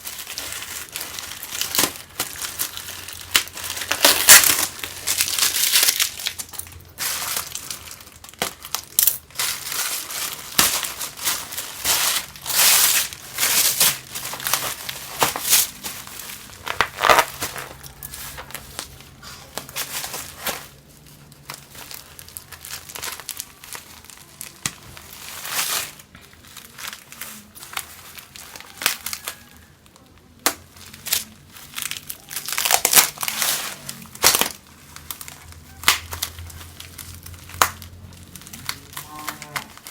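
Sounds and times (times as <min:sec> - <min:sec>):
packaging crinkling: 0:00.0 - 0:39.9
packaging tearing: 0:00.0 - 0:39.9.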